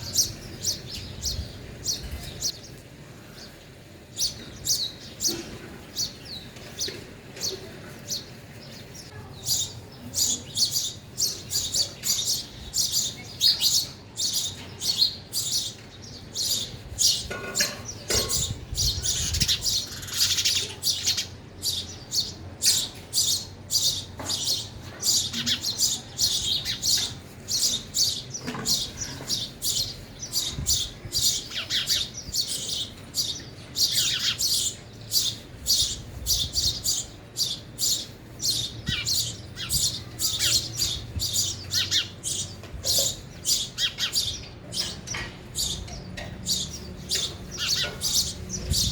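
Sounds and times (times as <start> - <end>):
sparrows chirping: 0.0 - 48.9.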